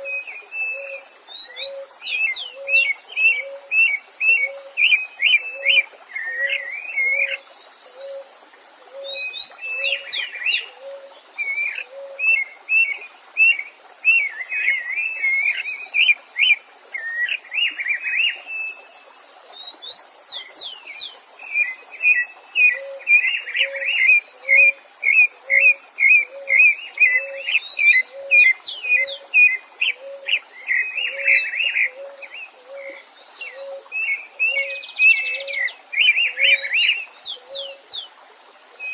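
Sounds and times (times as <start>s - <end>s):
songbirds chirping and trilling: 0.0s - 38.9s
stream running: 0.0s - 38.9s.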